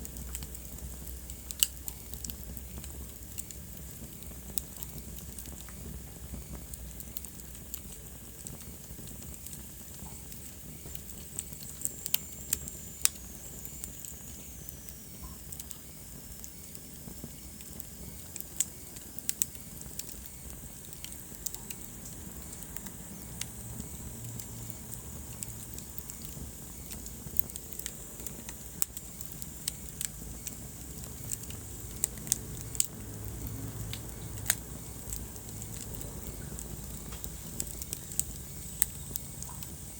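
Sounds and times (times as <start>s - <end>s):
low rumble of flames: 0.0s - 39.9s
wood fire crackling: 0.0s - 39.9s
thin whistling hiss: 0.5s - 32.9s, 33.5s - 39.9s.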